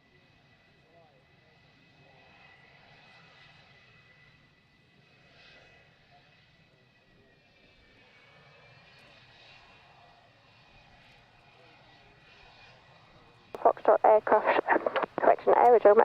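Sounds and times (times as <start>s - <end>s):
aircraft engine whine: 0.3s - 16.0s.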